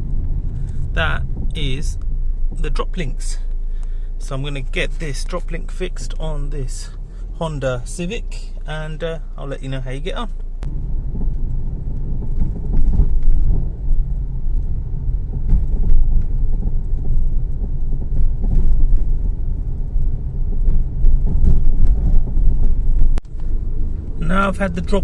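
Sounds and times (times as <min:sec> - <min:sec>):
road and engine rumble in car cabin: 0:00.0 - 0:25.0.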